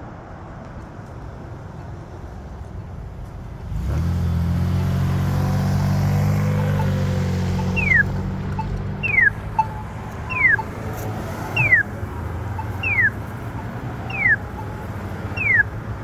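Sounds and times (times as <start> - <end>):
street traffic noise: 0.0 - 16.0
vehicle engine humming: 0.0 - 16.0.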